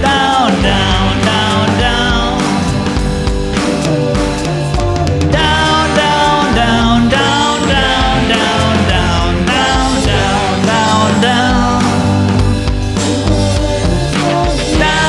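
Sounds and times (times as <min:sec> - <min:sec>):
band playing funky soul-rock: 0:00.0 - 0:15.0.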